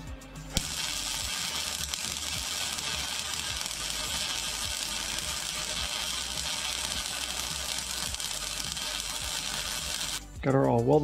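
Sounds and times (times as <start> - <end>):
arc welder crackling: 0.6 - 10.2.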